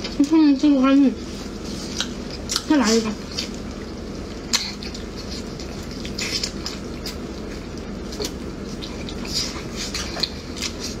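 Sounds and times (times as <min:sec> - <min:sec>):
steady low hum: 0:00.0 - 0:11.0
wet mouth eating sounds: 0:01.6 - 0:11.0.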